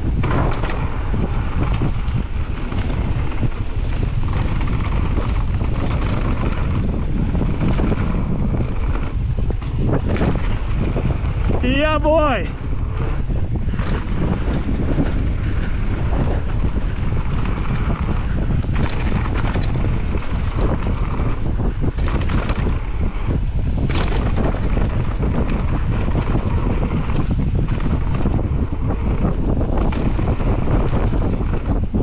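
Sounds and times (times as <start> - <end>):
bike knocks and rattles: 0.0 - 32.0
bike tyres rolling on dirt: 0.0 - 32.0
wind rushing over microphone: 0.0 - 32.0.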